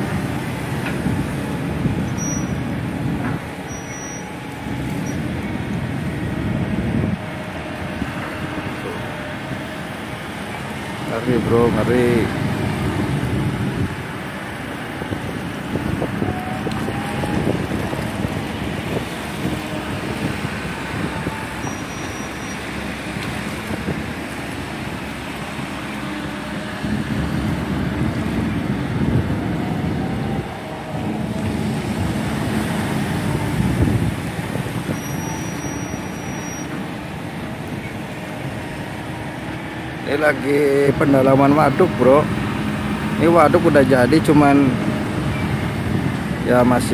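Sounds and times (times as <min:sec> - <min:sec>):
engine running steadily: 0:00.0 - 0:46.9
water noise: 0:00.0 - 0:46.9
wind: 0:00.0 - 0:46.9.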